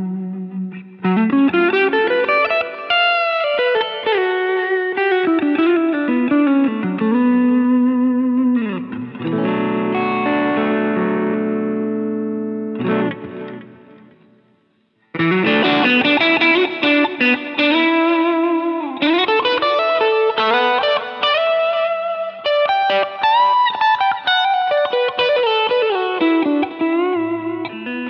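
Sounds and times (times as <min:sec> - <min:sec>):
overdriven electric guitar lead: 0:00.0 - 0:28.0.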